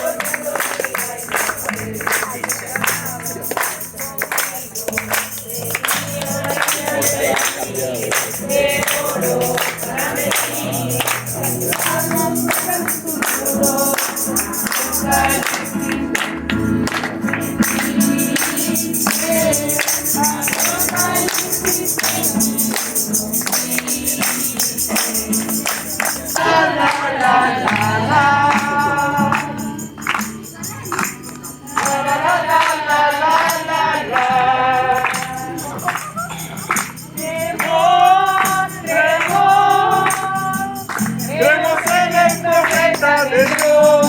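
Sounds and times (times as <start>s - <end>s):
group singing gospel song: 0.0s - 30.3s, 31.6s - 44.0s
accompanying music: 0.0s - 44.0s
tambourine shaking: 0.0s - 44.0s.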